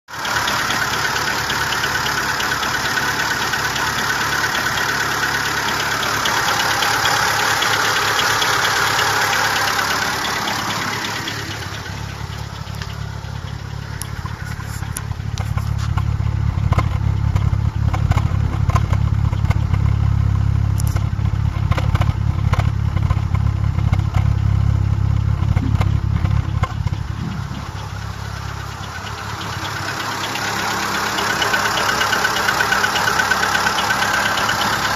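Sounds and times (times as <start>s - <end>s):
car engine idling: 0.0s - 34.9s
engine ticking: 0.1s - 34.9s.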